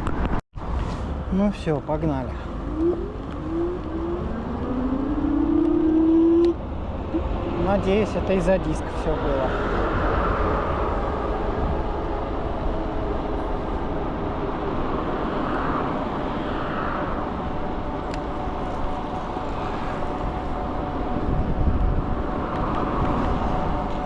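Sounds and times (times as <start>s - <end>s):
road and tyre noise: 0.0s - 24.0s
wind rushing over microphone: 0.0s - 24.0s.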